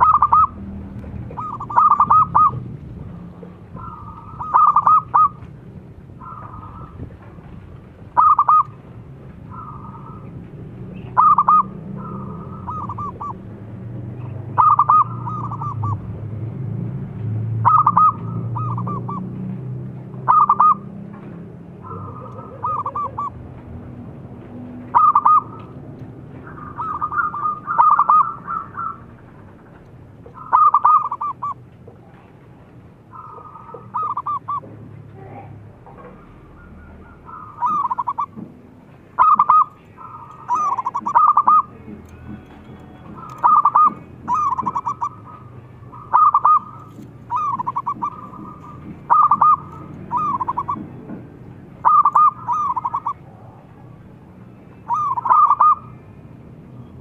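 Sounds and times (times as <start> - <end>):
dove cooing: 0.0 - 13.5, 14.2 - 16.1, 17.6 - 19.5, 20.1 - 21.0, 21.8 - 23.4, 24.9 - 25.8, 26.4 - 32.3, 33.1 - 56.1.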